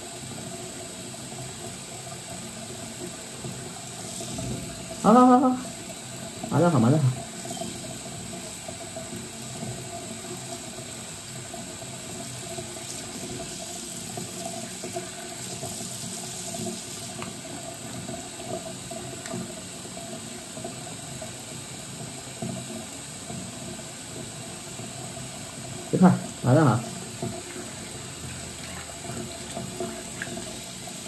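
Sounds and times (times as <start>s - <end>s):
tap water pouring into basin: 0.0s - 31.0s.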